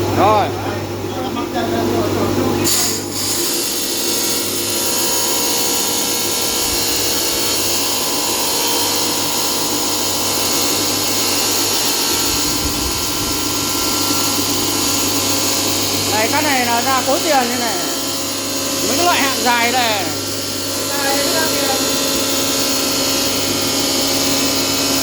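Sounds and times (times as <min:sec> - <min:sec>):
tile saw cutting tile: 0:02.6 - 0:25.0.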